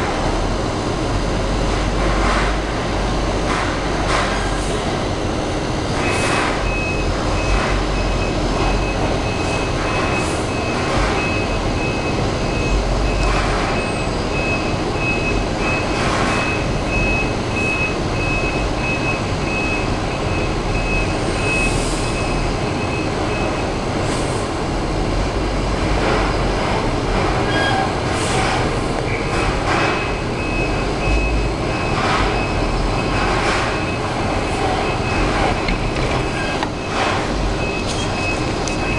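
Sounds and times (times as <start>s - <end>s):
diesel engine and machinery rumbling: 0.0s - 38.9s.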